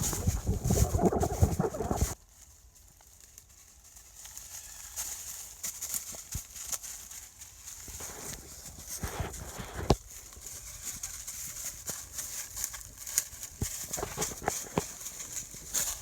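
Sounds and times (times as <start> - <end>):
footsteps through undergrowth: 0.0 - 16.0.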